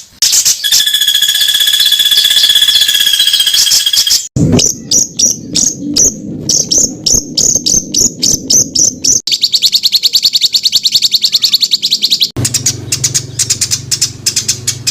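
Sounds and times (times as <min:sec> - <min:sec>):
songbird calls: 0:00.2 - 0:14.9.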